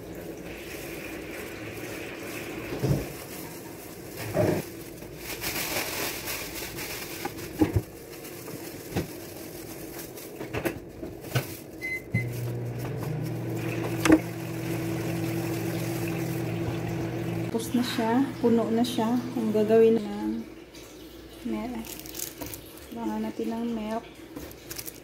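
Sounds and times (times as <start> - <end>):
low appliance hum: 0.0 - 25.0.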